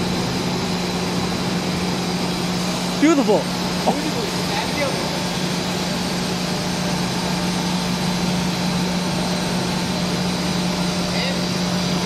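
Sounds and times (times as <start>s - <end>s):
extrusion machine hum and hiss: 0.0s - 12.0s.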